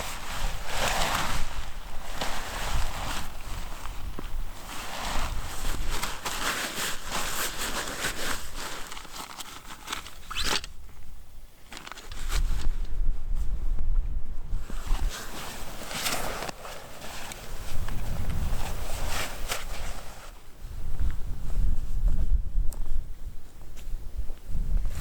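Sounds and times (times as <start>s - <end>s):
rustling and crinkling handling: 0.0s - 21.2s.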